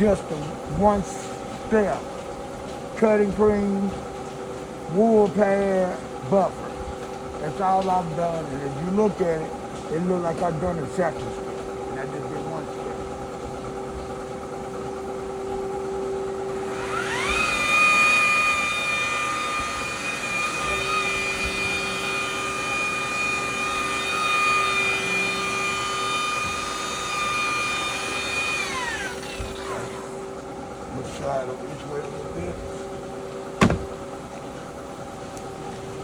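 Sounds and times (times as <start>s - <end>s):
car buffer motor whine: 0.0s - 36.0s.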